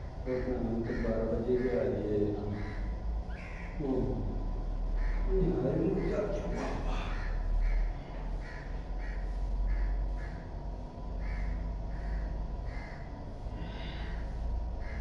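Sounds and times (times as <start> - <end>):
crows cawing: 0.0 - 15.0
steady low rumble: 0.0 - 15.0.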